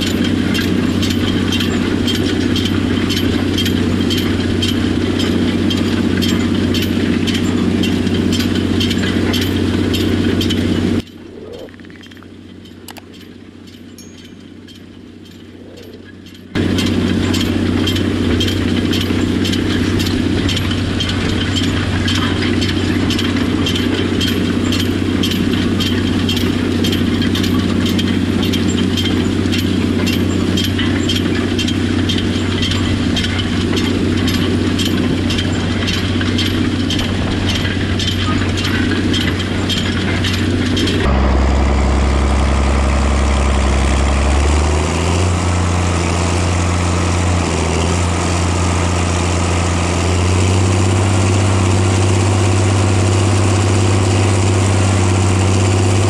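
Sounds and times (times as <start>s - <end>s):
steel implement rattling: 0.0s - 56.0s
tractor engine running: 0.0s - 56.0s.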